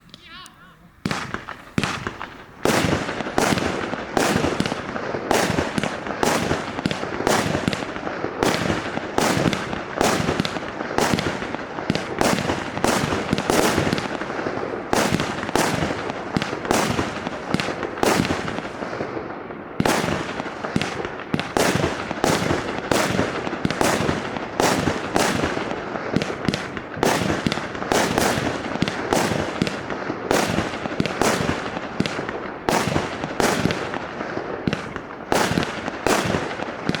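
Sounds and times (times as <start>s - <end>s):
firework bangs: 0.0s - 37.0s.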